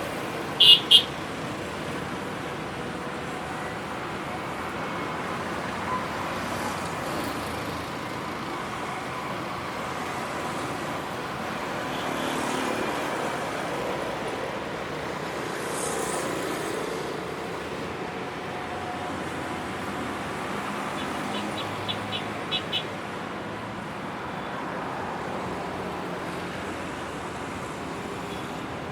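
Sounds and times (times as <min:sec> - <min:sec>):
cars and motorbikes passing: 0:00.0 - 0:28.9.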